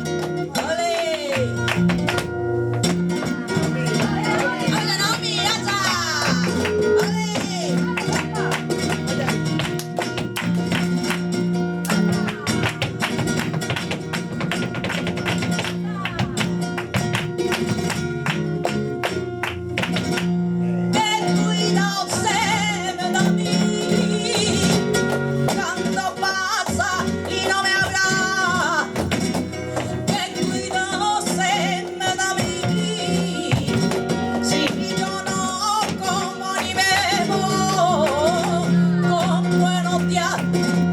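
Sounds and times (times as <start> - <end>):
flamenco guitar: 0.0 - 40.9
flamenco singer: 0.0 - 40.9.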